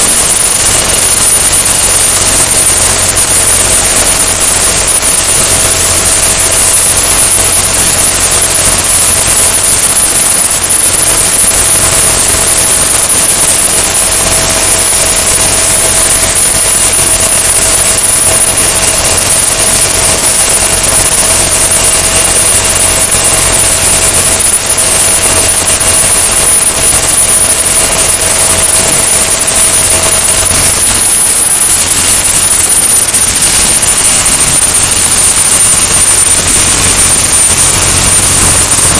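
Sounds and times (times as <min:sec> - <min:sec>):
helicopter rotor and turbine: 0:00.0 - 0:38.9
high turbine whine: 0:00.0 - 0:38.9.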